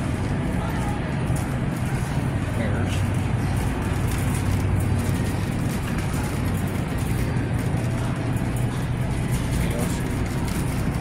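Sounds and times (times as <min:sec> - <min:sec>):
supermarket background hum: 0:00.0 - 0:11.0.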